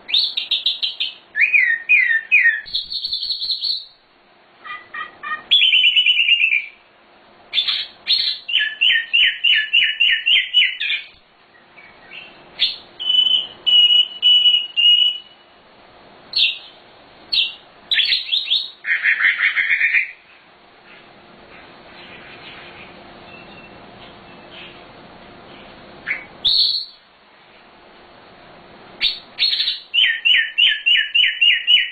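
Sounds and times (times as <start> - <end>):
songbird singing: 0.0 - 4.0, 4.6 - 6.8, 7.5 - 15.5, 16.3 - 27.1, 29.0 - 31.9.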